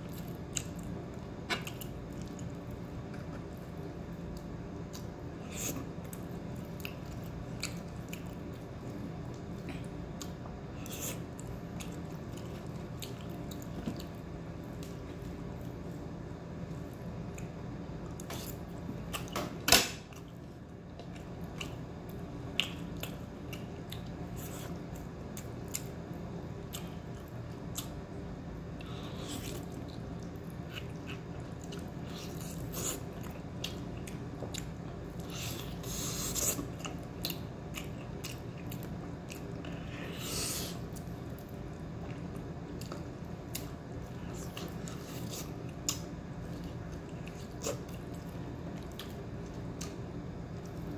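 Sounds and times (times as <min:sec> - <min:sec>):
person chewing food: 0:00.0 - 0:19.4, 0:20.0 - 0:50.9.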